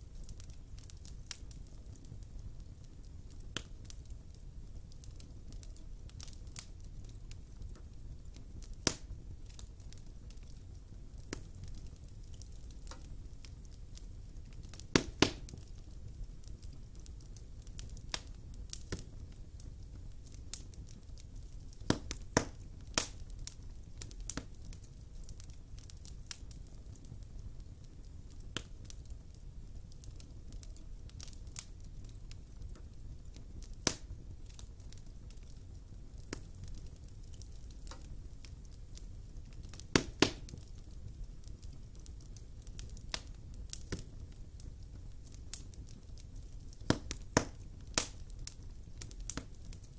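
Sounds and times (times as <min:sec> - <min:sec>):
fire burning low rumble: 0:00.0 - 0:49.9
fire crackles and pops: 0:00.0 - 0:49.9.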